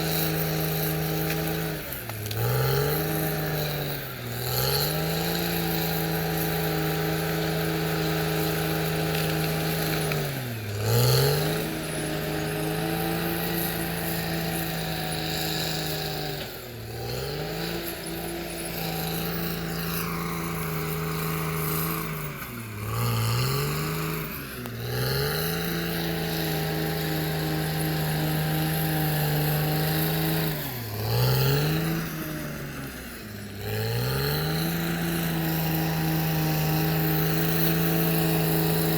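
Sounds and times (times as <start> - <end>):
bulldozer diesel engine revving: 0.0 - 38.9.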